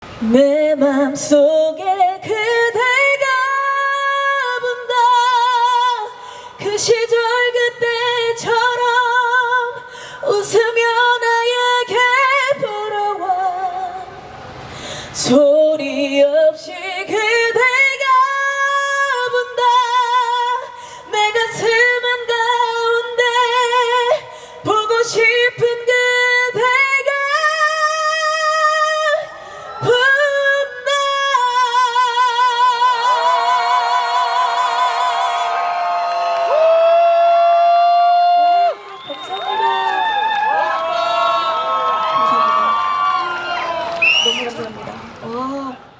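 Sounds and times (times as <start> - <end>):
woman singing ballad: 0.2 - 14.2, 15.0 - 38.2.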